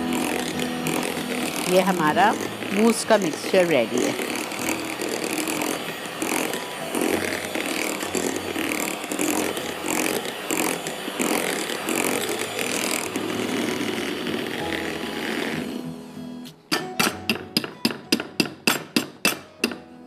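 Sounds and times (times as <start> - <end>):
electric hand mixer running: 0.0 - 16.4.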